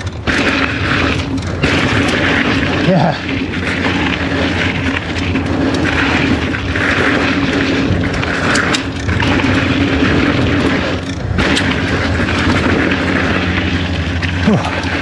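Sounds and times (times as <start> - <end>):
bike clicks and rattles: 0.0 - 15.0
tyre and wind noise: 0.0 - 15.0.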